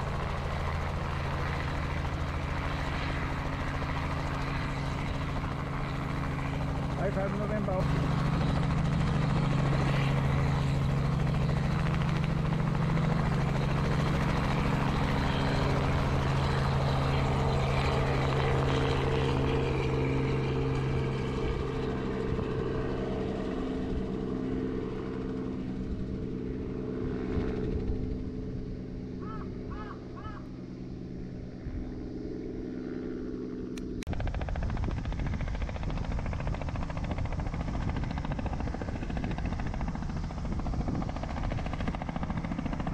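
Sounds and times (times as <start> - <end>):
helicopter rotor and engine: 0.0 - 42.9.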